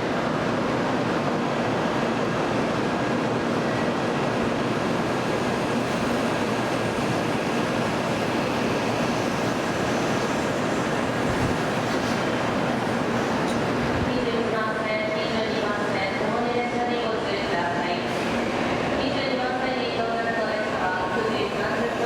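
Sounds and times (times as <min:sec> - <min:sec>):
train departing: 0:00.0 - 0:22.0.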